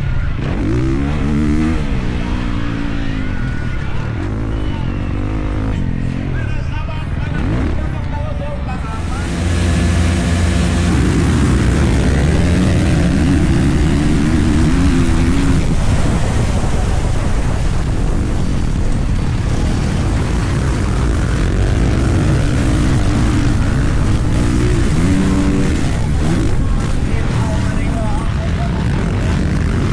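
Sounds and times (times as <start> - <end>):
dirt bike engine revving: 0.0 - 6.6, 7.2 - 29.9
constant rushing noise: 0.0 - 29.9.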